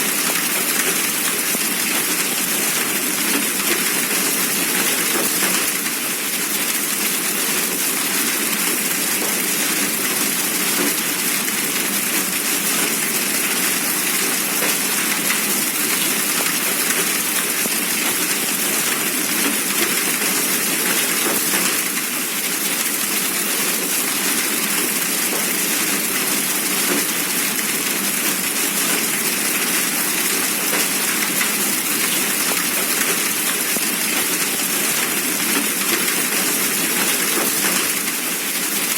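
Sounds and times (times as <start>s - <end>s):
hail pelting down: 0.0s - 38.9s
heavy rain: 0.0s - 38.9s.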